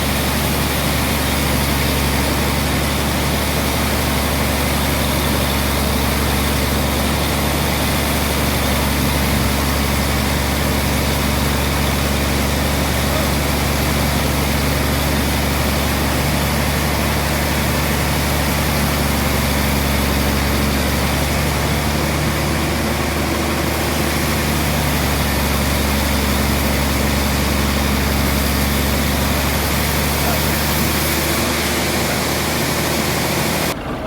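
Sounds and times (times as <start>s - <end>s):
sawmill machinery humming: 0.0s - 34.0s.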